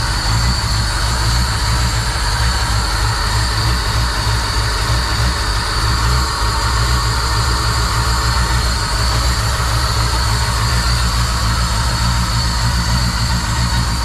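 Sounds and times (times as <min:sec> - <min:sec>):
pickup truck engine idling: 0:00.0 - 0:14.0.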